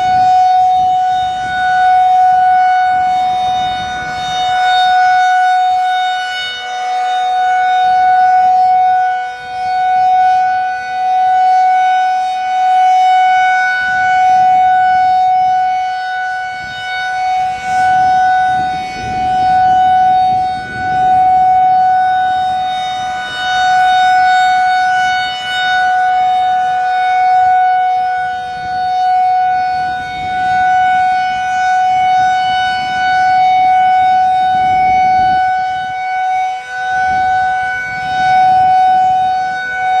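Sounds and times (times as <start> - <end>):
outdoor warning siren steady alert: 0.0 - 40.0.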